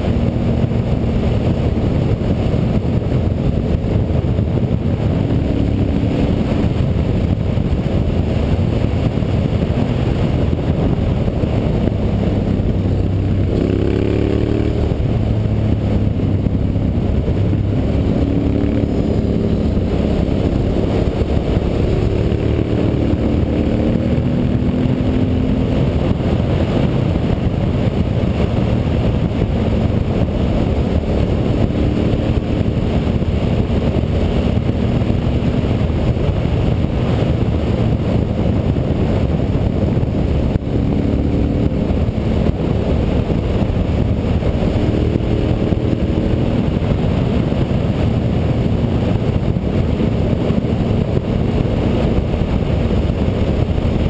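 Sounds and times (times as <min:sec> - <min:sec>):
motorcycle engine running: 0:00.0 - 0:54.0
wind rushing on microphone: 0:00.0 - 0:54.0.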